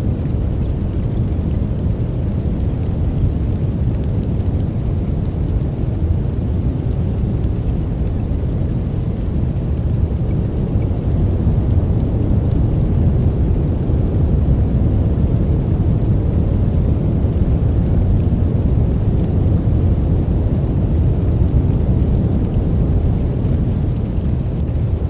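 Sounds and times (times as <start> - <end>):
deep white noise: 0.0 - 25.0.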